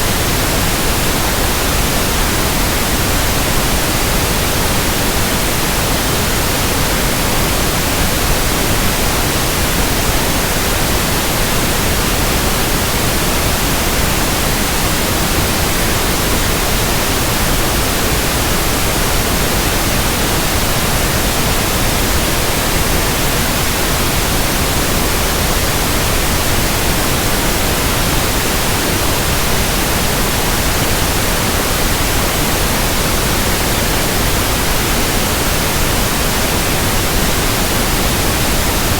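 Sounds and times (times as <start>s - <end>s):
pink noise static hiss: 0.0s - 38.9s.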